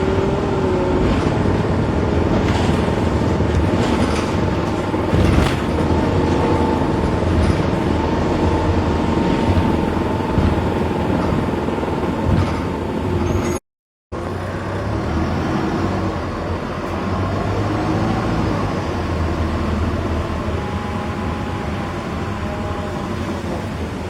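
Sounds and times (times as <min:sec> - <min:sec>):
bus engine running: 0:00.0 - 0:13.6, 0:14.2 - 0:24.0.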